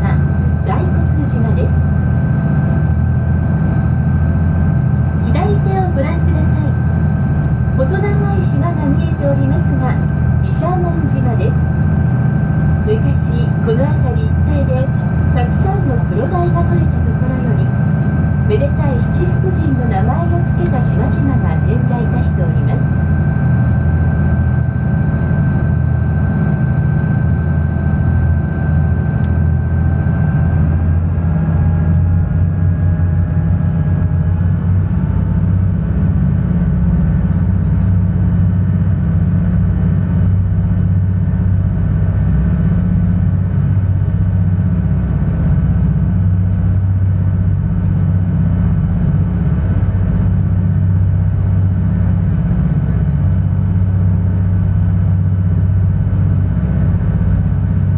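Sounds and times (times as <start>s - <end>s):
boat engine drone: 0.0s - 57.9s
faint whine: 0.0s - 57.9s.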